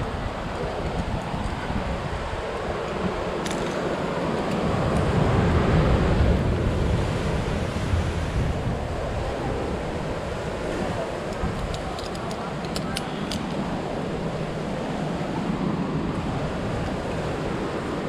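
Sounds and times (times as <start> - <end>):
ocean surf washing on shore: 0.0 - 18.0
wind buffeting microphone: 0.0 - 18.0.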